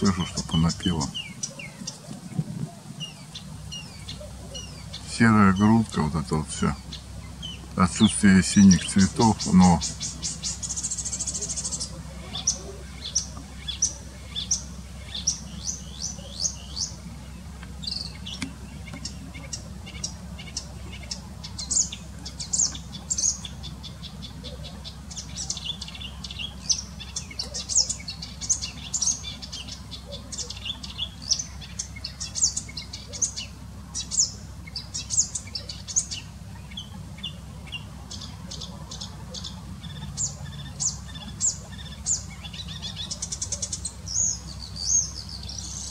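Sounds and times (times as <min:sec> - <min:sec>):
warbler singing chirps and trills: 0:00.0 - 0:45.9.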